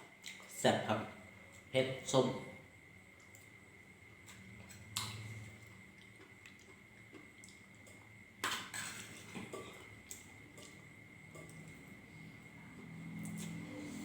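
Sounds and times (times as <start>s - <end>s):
faint high-pitched hum: 0.0s - 14.0s.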